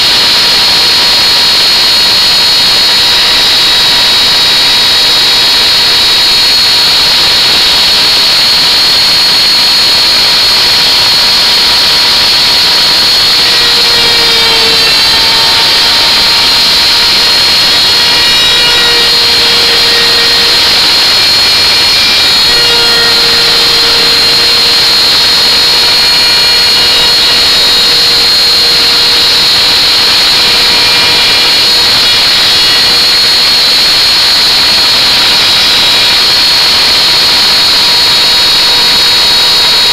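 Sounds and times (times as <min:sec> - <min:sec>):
electric router whining: 0:00.0 - 0:39.9.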